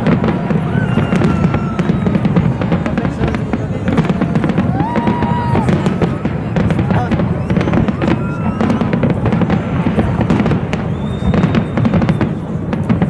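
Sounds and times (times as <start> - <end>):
fireworks cracking and crackling: 0.0 - 13.0.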